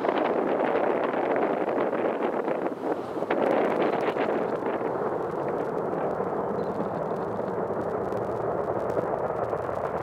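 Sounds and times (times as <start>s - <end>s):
distant rocket engine rumble: 0.0s - 10.0s.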